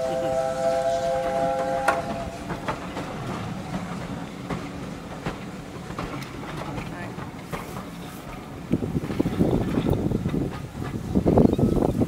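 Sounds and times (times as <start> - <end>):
train coaches rumbling: 0.0 - 12.0
wheel clicks on rail joints: 1.6 - 12.0.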